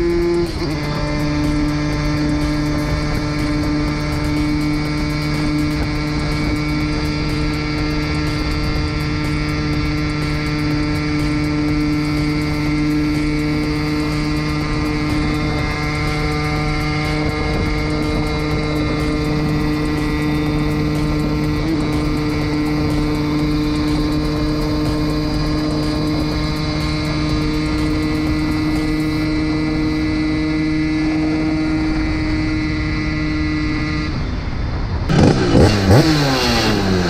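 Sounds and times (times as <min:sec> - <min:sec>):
moped engine at high revs: 0:00.0 - 0:37.0.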